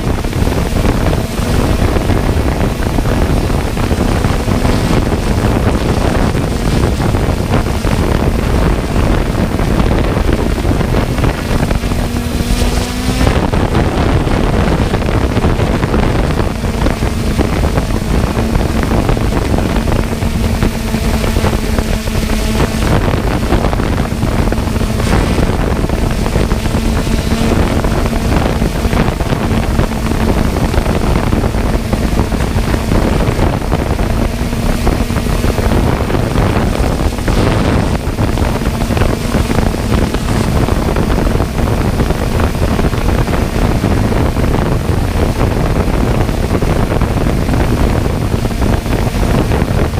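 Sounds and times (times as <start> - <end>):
constant motor hum: 0.0 - 49.9
wind buffeting microphone: 0.0 - 49.9.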